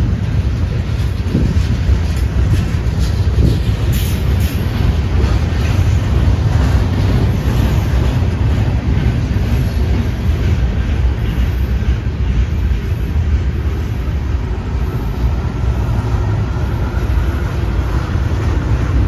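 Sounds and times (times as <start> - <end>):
steel wheels rumbling on rails: 0.0 - 19.0.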